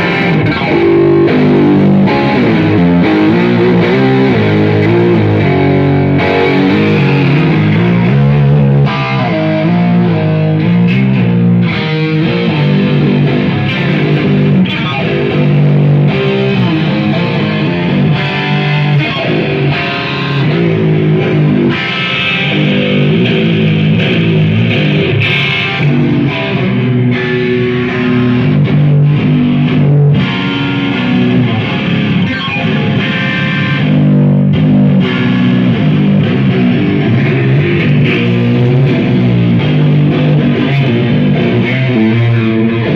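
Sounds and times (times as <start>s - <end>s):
electric guitar through amplifier: 0.0s - 42.9s.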